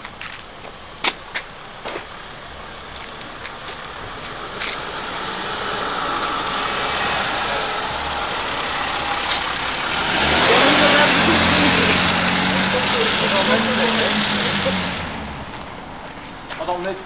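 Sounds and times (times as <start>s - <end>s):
ambulance driving past: 2.1s - 16.5s.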